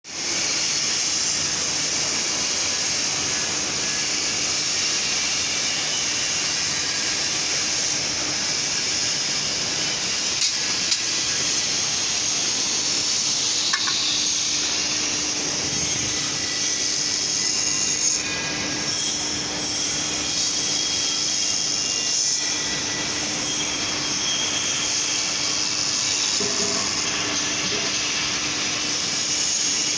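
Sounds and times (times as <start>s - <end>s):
steady machine hiss: 0.1s - 29.9s.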